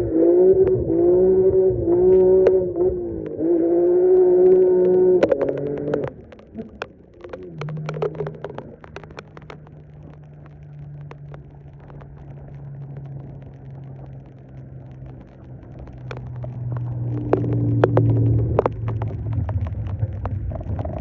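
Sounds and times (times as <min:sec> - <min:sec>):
sharp clicks and knocks: 0:02.0 - 0:21.0.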